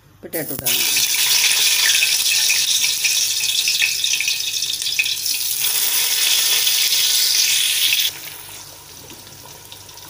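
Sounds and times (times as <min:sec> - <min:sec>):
potato slices sizzling in oil: 0:00.4 - 0:10.0.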